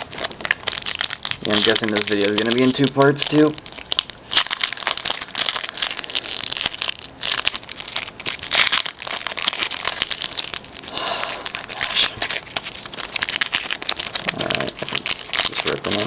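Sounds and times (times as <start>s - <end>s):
card pack wrappers crinkling: 0.0s - 16.0s.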